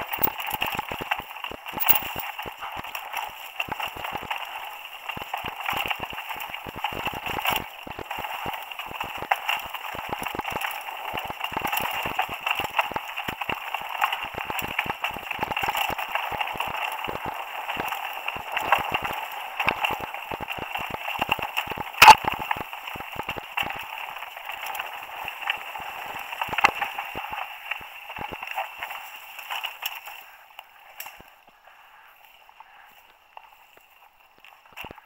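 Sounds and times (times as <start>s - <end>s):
bike clicks and rattles: 0.0s - 35.0s.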